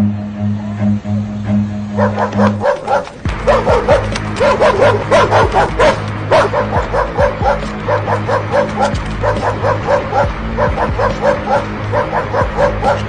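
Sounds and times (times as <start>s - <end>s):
background music with low held notes: 0.0s - 13.0s
high dog-like yips: 2.0s - 13.0s.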